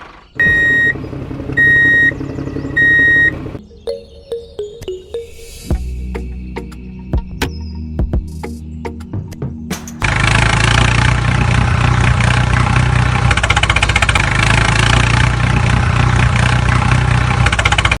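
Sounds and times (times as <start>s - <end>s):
engine running with pulsing beat: 0.4s - 5.1s, 5.7s - 18.0s.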